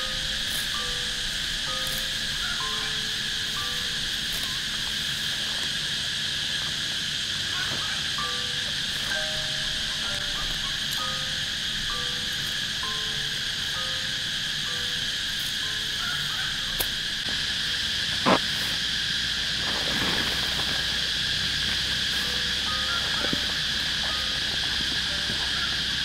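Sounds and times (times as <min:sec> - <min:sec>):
crickets and insects chirring: 0:00.0 - 0:26.0.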